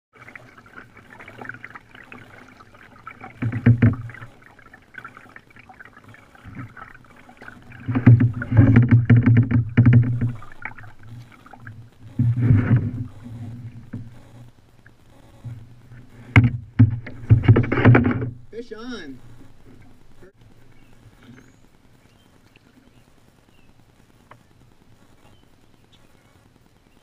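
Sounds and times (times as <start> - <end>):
water splashing against plastic hull: 0.1 - 23.0
paddle strokes: 0.1 - 25.8.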